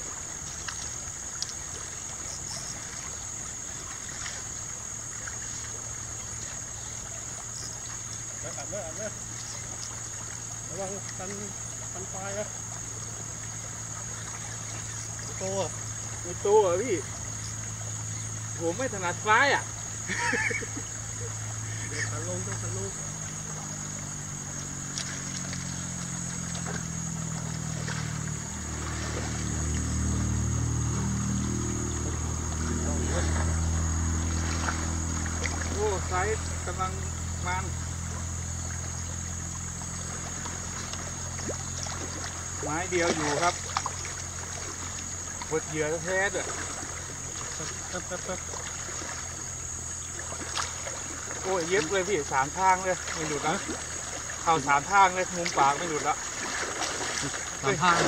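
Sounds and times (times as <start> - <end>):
high-pitched insect drone: 0.0 - 58.0
water flowing in river: 0.0 - 58.0
motor engine running: 8.1 - 58.0.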